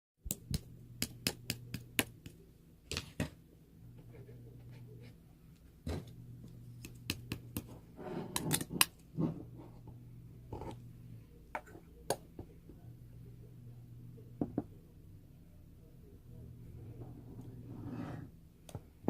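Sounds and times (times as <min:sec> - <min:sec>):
low steady hum: 0:00.2 - 0:19.0.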